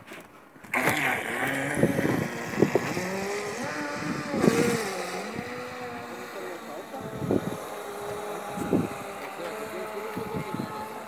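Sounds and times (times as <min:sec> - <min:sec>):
electric motor whining: 0:00.7 - 0:11.0.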